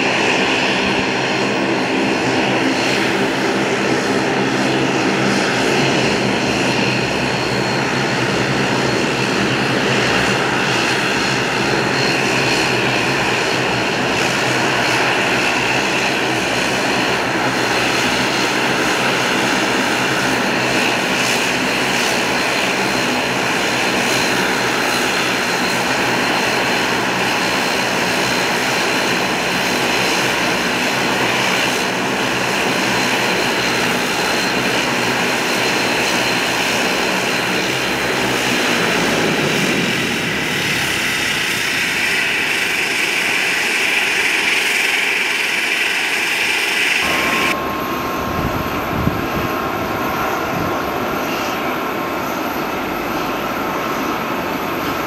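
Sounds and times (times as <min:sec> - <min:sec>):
turboprop engines running: 0:00.0 - 0:55.0.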